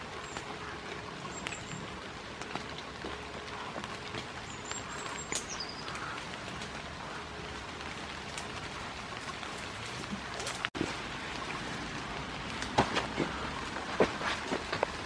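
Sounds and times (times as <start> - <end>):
goats rustling in wet bushes: 0.0 - 15.0
rain on leaves and pavement: 0.0 - 15.0.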